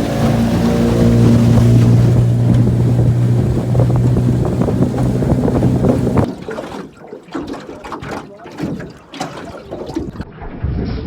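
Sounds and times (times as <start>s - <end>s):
outboard motor running: 0.0s - 9.5s
wind and water noise: 0.0s - 10.3s.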